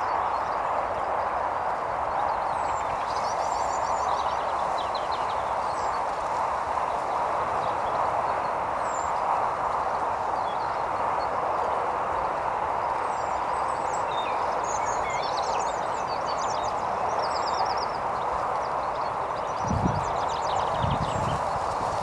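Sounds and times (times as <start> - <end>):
background hiss: 0.0 - 22.0
small birds chirping: 0.0 - 22.0.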